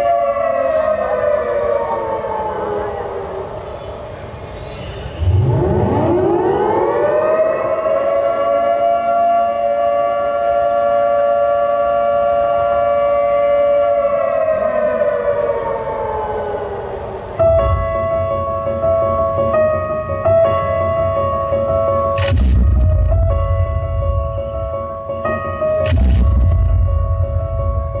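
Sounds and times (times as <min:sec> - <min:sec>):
air-raid siren wailing: 0:00.0 - 0:28.0.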